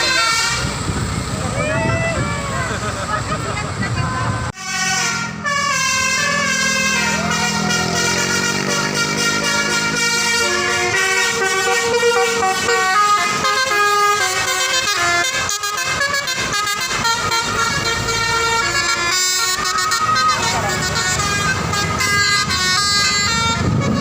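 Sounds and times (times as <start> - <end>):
multi-tone bus horn playing tune: 0.0 - 1.0, 4.0 - 24.0.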